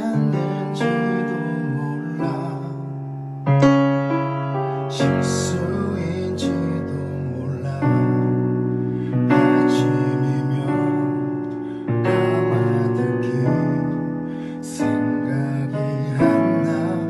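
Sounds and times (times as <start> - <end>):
piano ballad chords: 0.0 - 17.0.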